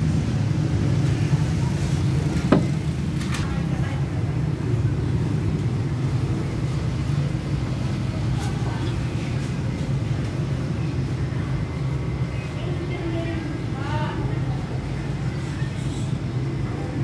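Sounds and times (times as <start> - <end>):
motor vehicle engine rumbling: 0.0 - 17.0.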